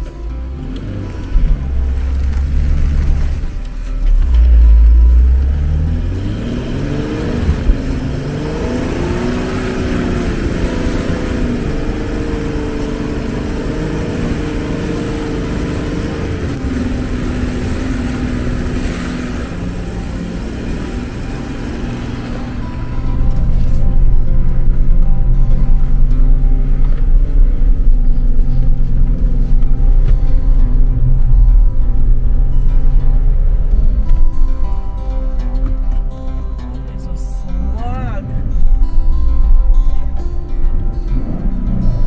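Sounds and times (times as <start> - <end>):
car engine pulling: 0.0 - 42.0
loud low rumble: 0.0 - 42.0
tyres churning snow: 0.0 - 42.0.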